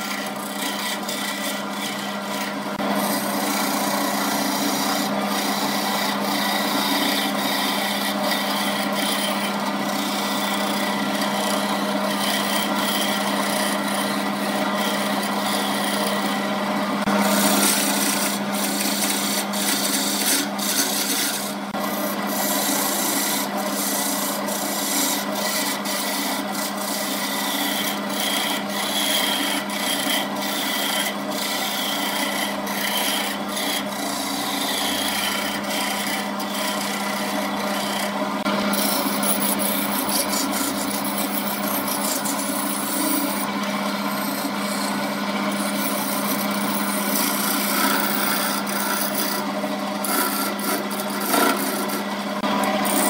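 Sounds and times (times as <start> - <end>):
chisel scraping spinning wood: 0.0 - 53.0
wood lathe motor hum: 0.0 - 53.0.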